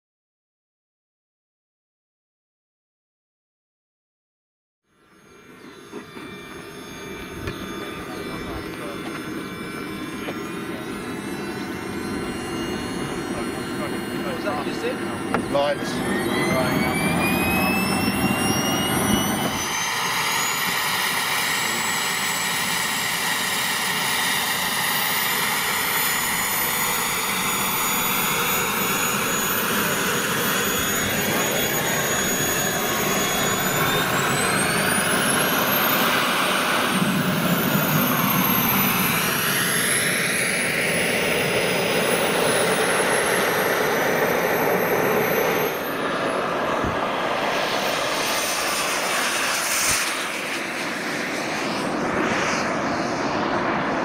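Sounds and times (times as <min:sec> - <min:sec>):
model jet turbine whine: 0:04.9 - 0:54.0.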